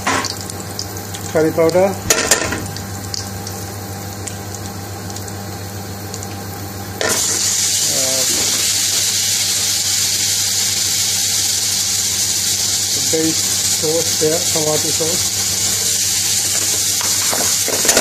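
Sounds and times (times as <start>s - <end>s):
oil sizzling in a hot pan: 0.0s - 18.0s.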